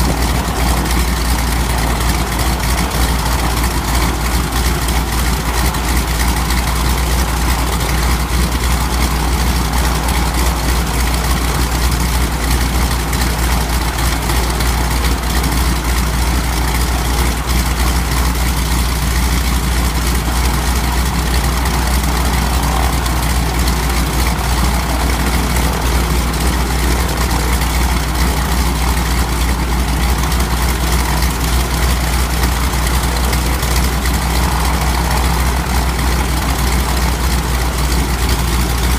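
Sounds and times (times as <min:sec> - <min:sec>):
radial engine idling: 0:00.0 - 0:38.9.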